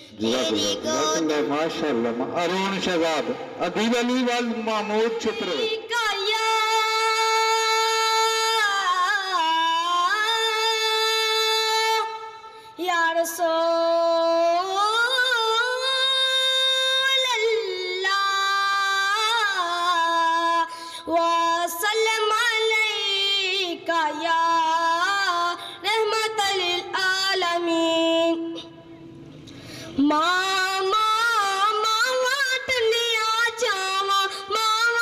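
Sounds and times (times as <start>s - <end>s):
boy singing unaccompanied: 0.0s - 1.7s, 4.8s - 28.7s, 30.0s - 35.0s.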